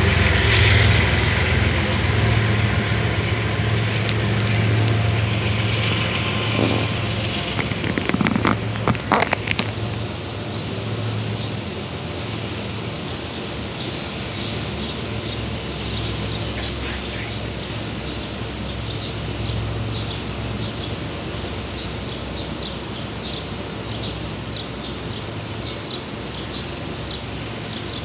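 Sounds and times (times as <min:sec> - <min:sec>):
freight train rumbling over bridge: 0:00.0 - 0:28.0.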